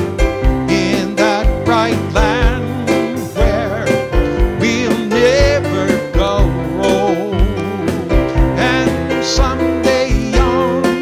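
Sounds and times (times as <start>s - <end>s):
electronic keyboard music: 0.0s - 11.0s
steady drum beat: 0.0s - 11.0s.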